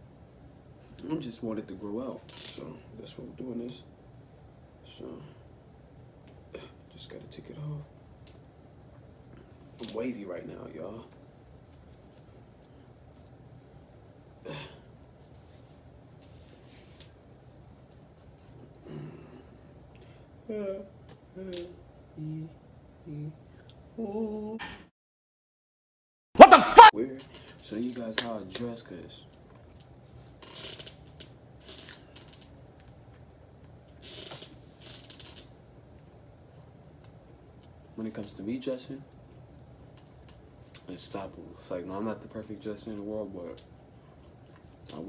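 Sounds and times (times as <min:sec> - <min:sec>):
low room hum: 0:00.0 - 0:24.6, 0:26.4 - 0:45.0.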